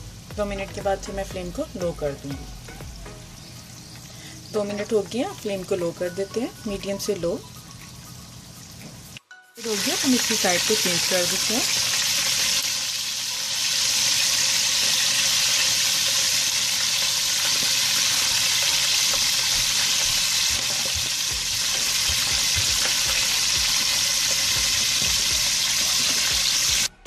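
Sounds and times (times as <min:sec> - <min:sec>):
chicken deep-frying in oil: 0:03.4 - 0:06.1, 0:07.1 - 0:26.9.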